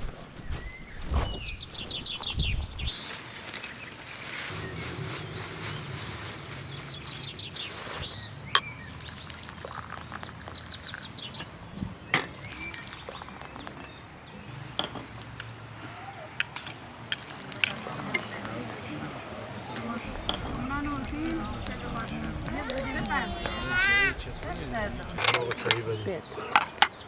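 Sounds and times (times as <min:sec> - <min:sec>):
small birds chirping: 0:00.3 - 0:27.0.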